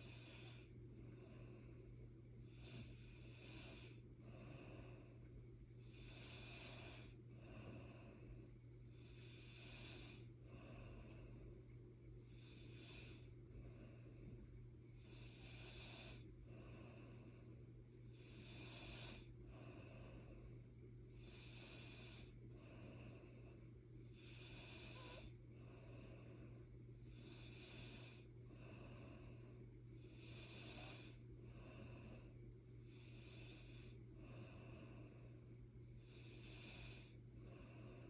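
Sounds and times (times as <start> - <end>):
person snoring softly: 0.0 - 38.0
steady low hum: 0.0 - 38.0.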